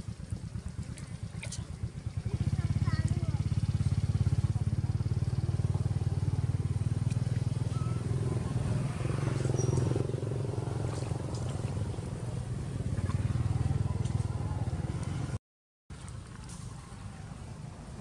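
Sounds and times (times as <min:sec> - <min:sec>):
small engine running: 0:00.0 - 0:15.4.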